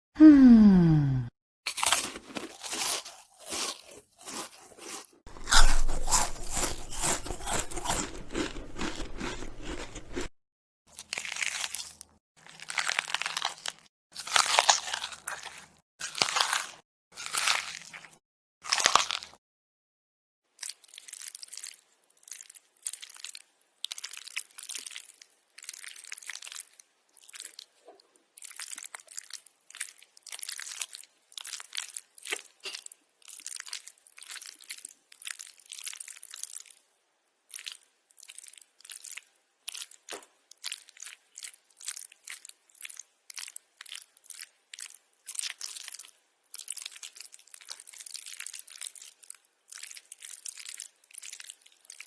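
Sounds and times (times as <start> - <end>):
crunching of crisp food chewed: 1.7 - 10.3, 10.9 - 19.4, 20.5 - 52.0.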